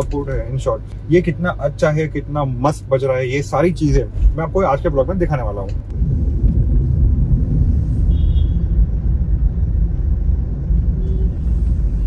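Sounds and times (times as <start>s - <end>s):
road and engine rumble in car cabin: 0.0s - 12.0s.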